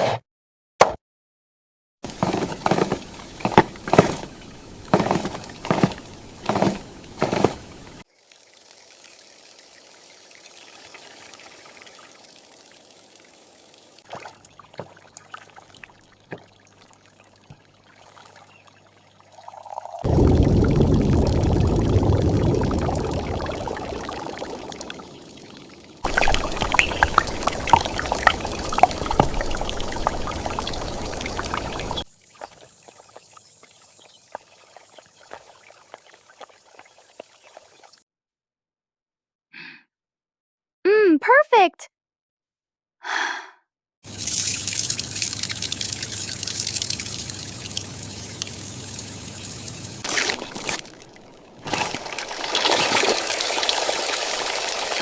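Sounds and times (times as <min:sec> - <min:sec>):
water pouring: 0:02.0 - 0:17.2, 0:19.2 - 0:38.0, 0:44.1 - 0:55.0.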